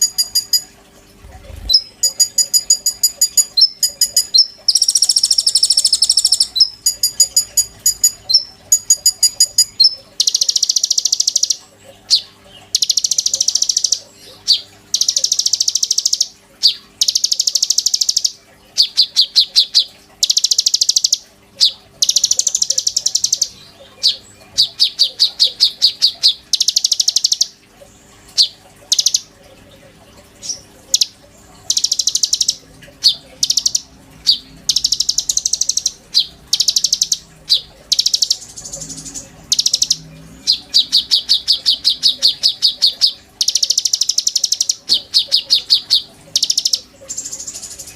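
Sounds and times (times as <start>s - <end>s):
songbird singing buzzy trills: 0.0s - 47.9s.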